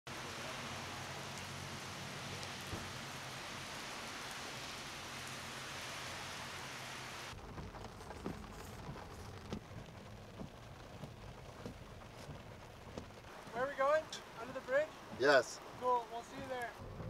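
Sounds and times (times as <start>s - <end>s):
rain on wet pavement: 0.1s - 17.0s.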